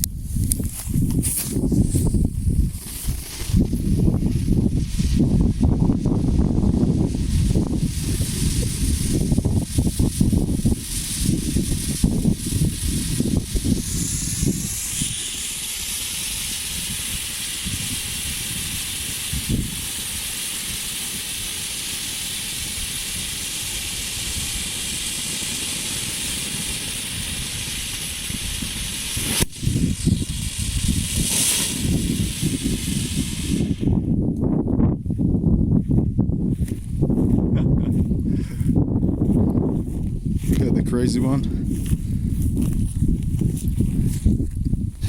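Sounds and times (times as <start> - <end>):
fireworks hissing sparks: 0.0 - 34.3, 39.8 - 45.0.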